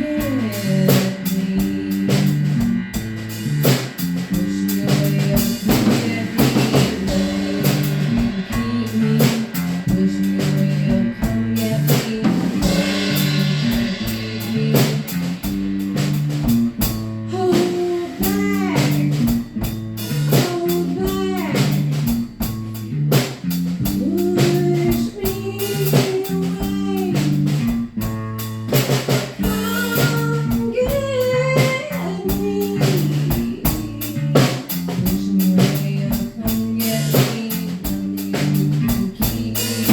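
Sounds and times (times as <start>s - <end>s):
band music with drums and guitar: 0.0s - 39.9s.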